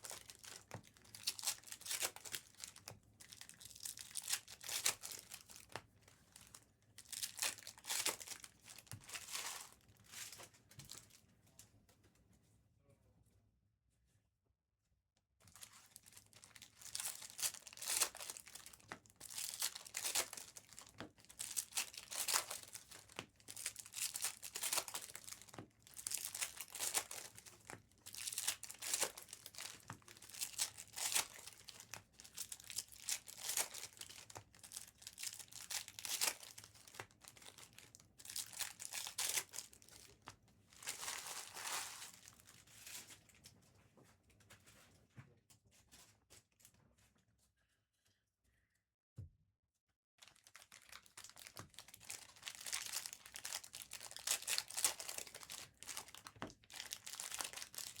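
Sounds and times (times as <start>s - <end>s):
packaging crinkling and tearing: 0.0s - 11.2s, 15.5s - 43.2s, 50.2s - 58.0s.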